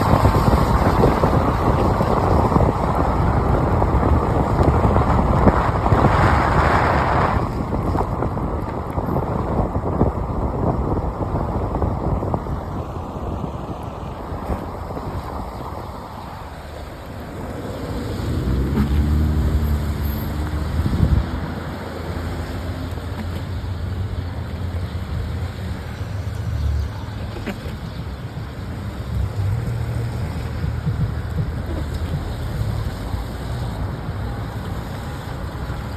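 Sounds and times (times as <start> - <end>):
car tyres on wet road: 0.0 - 35.9.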